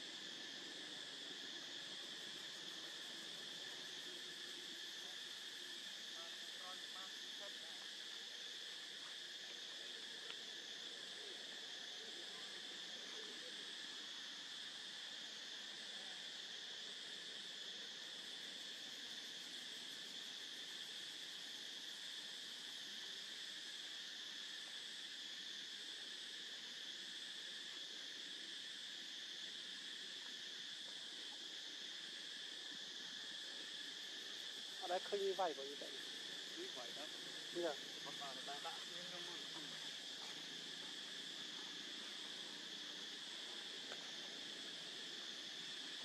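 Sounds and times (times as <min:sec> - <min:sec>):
forest insects droning: 0:00.0 - 0:46.0.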